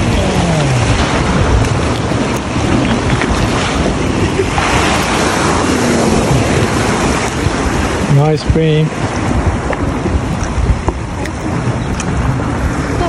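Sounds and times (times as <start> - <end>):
ocean surf rushing: 0.0 - 13.0
wind noise on microphone: 0.0 - 13.0.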